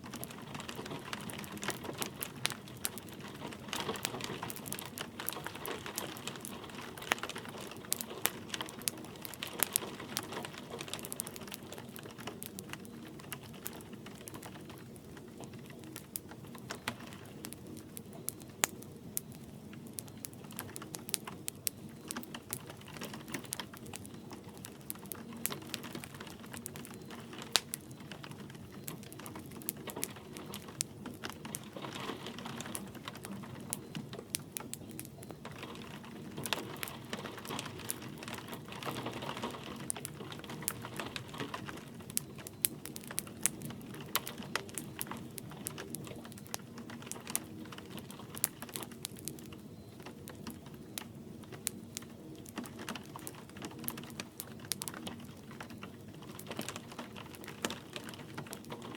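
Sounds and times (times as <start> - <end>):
light rain hiss: 0.0 - 58.9
low rumble of flames: 0.0 - 58.9
sharp snaps and pops: 0.0 - 58.9
wood fire crackling: 0.0 - 58.9.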